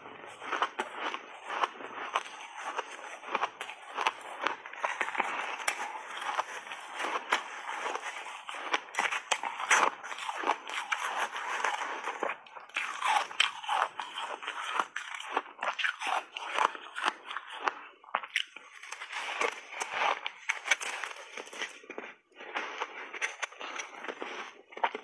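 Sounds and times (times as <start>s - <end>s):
ice being crunched and chewed: 0.0s - 25.0s
spoon digging through shaved ice: 0.3s - 22.1s.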